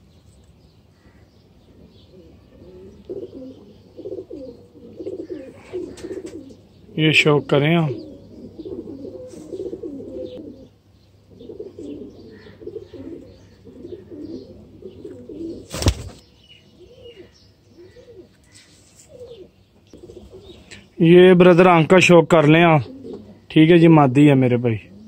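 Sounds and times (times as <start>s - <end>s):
pigeons cooing: 1.0s - 21.0s, 22.4s - 23.8s, 24.7s - 25.0s.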